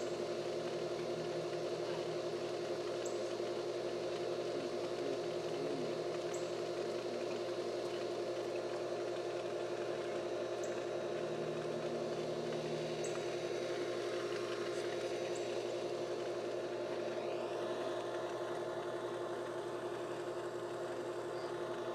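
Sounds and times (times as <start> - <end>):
steady motor hum: 0.0 - 21.9.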